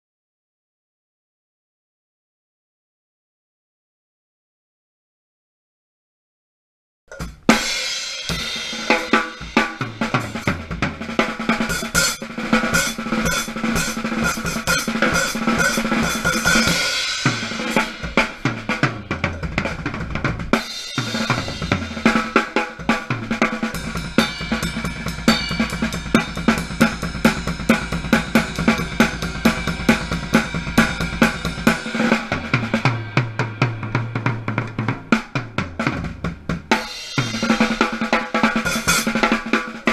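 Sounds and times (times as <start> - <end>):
drum kit playing: 7.1 - 39.9.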